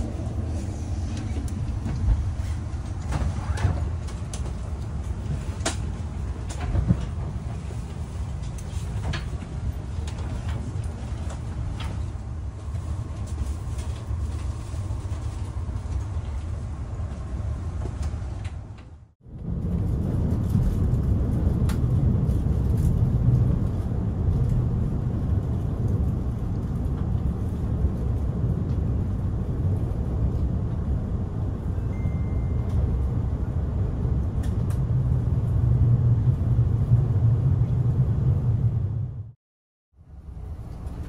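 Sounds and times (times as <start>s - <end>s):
train cabin rumble: 0.0s - 39.4s, 40.1s - 41.0s.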